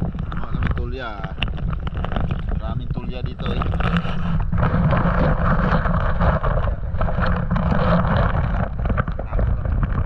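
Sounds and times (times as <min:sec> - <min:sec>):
low fluttering rumble: 0:00.0 - 0:10.0
scattered crackles: 0:00.0 - 0:10.0
water rushing and splashing: 0:00.0 - 0:10.0
wind buffeting microphone: 0:00.0 - 0:10.0.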